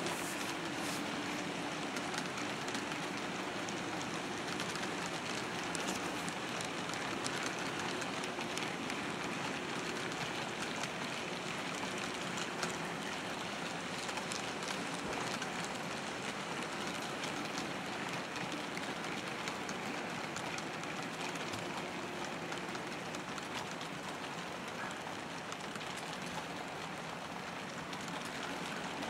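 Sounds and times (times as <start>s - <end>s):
model train wheels rushing on track: 0.0s - 29.0s.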